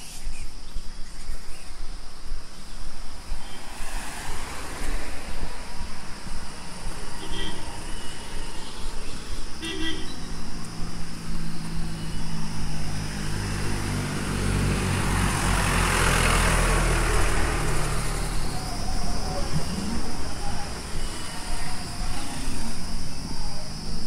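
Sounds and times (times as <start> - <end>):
bus engine passing: 3.2 - 24.0.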